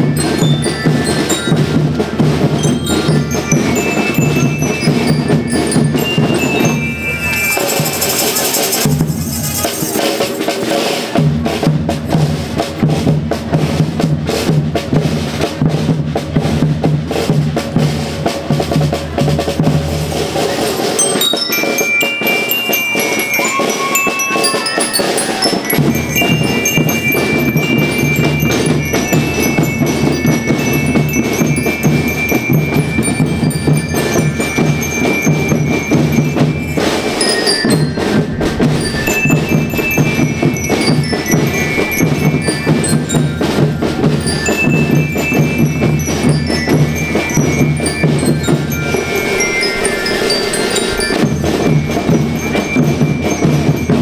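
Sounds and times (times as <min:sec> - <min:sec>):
high-pitched melody instruments: 0:00.0 - 0:11.2, 0:19.6 - 0:54.0
drum beat: 0:00.0 - 0:54.0.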